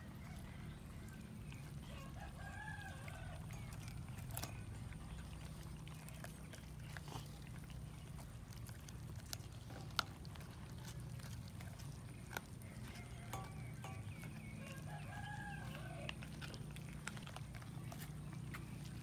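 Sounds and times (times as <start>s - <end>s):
cats chewing and tearing: 0.0s - 19.0s
steady low hum: 0.0s - 19.0s.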